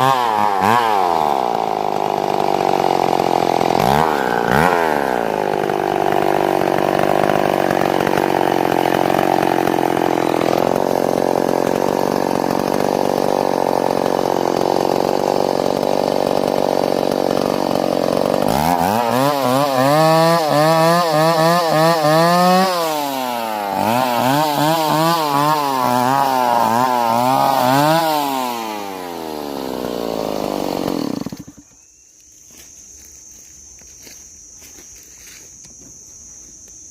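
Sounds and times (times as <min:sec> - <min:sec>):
chainsaw cutting: 0:00.0 - 0:36.6.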